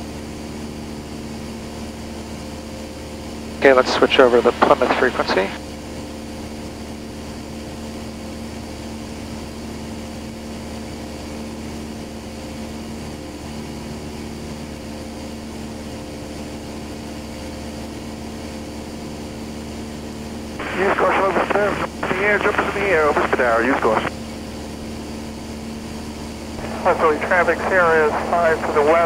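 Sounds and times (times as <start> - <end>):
aircraft engine droning: 0.0 - 29.0.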